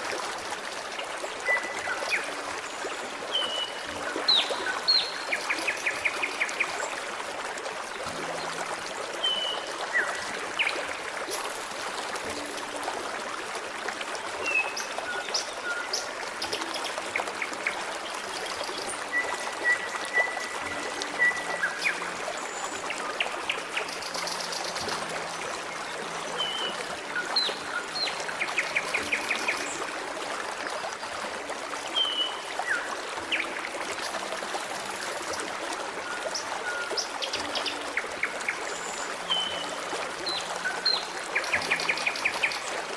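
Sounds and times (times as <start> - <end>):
stream trickling and babbling: 0.0 - 42.9.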